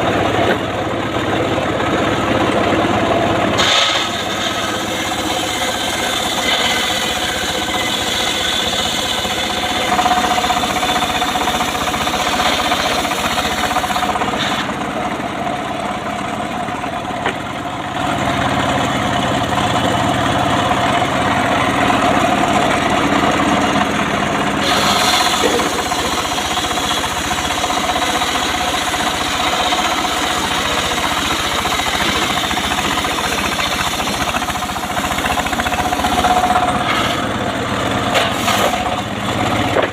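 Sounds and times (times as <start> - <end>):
engine-driven circular saw cutting wood: 0.0 - 39.9.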